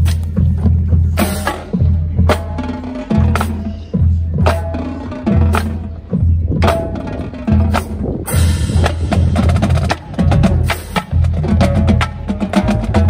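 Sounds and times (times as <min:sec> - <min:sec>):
marching drumline cadence: 0:00.0 - 0:13.0.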